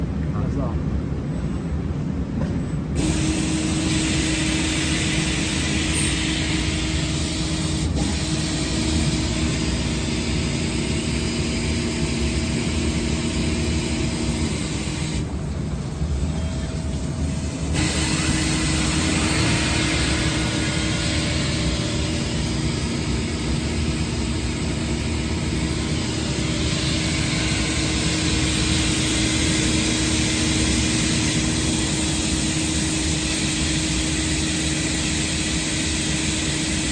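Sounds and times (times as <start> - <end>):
coolant spraying hiss: 3.0 - 36.9
lathe machine hum: 3.0 - 36.9.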